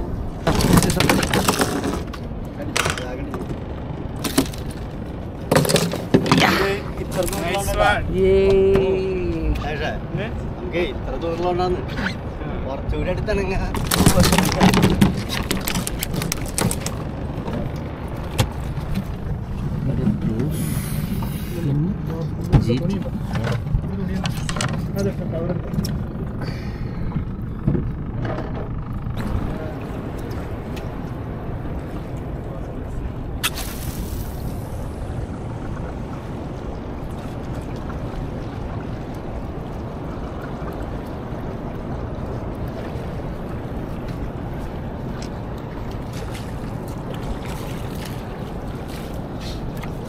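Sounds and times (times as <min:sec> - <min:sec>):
boat engine running: 0:00.0 - 0:50.0
water noise: 0:00.0 - 0:50.0.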